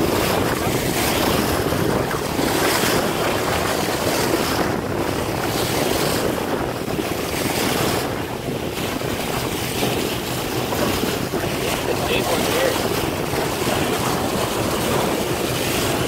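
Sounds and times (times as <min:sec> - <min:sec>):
water rushing past boat hull: 0:00.0 - 0:16.0
wind buffeting microphone: 0:00.0 - 0:16.0.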